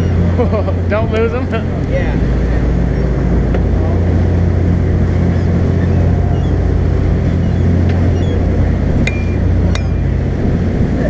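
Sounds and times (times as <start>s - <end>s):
boat engine droning: 0.0s - 11.0s
water rushing from wake: 0.0s - 11.0s.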